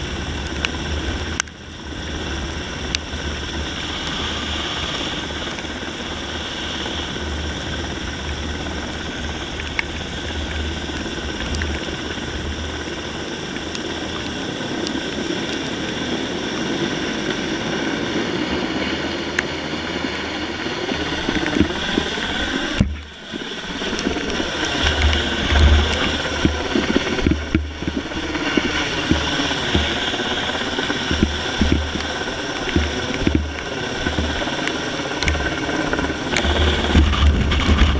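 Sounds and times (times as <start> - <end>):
helicopter rotor and engine: 0.0 - 37.9
wind buffeting microphone: 0.0 - 37.9.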